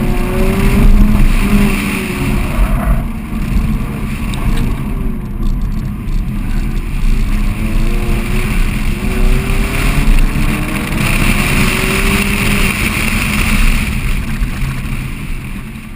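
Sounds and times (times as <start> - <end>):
car engine running under load: 0.0 - 15.9.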